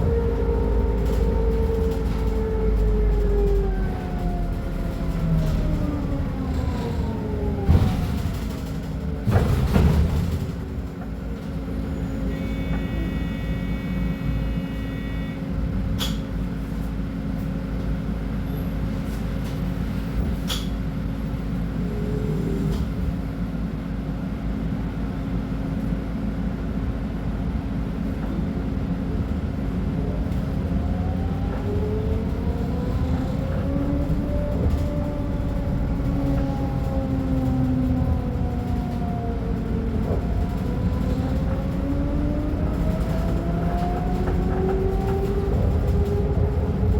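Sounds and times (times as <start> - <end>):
bus diesel engine whining: 0.0 - 46.9.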